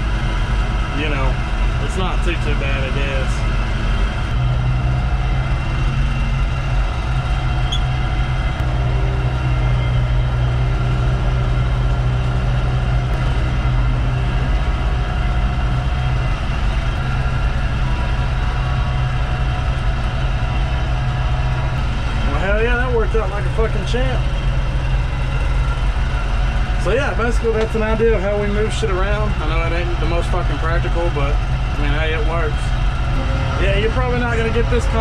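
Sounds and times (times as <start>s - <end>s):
forklift engine droning: 0.0s - 35.0s.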